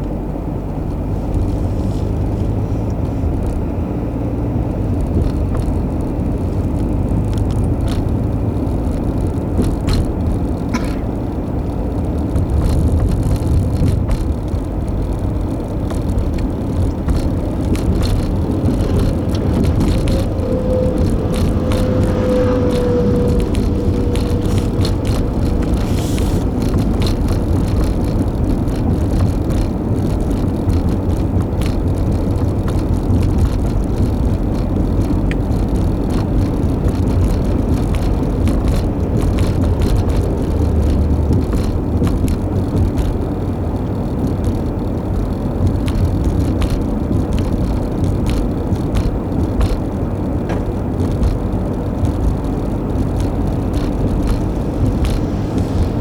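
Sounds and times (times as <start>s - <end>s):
tyre and engine rumble: 0.0s - 56.0s
small rattles and clicks: 4.6s - 56.0s.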